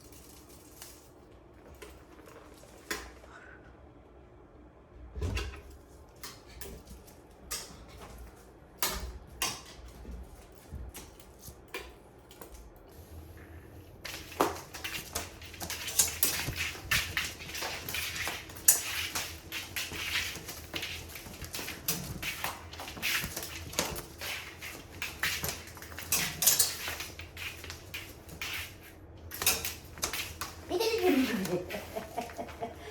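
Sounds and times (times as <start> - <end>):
cats scuffling and scratching: 0.0 - 3.3, 5.1 - 32.9.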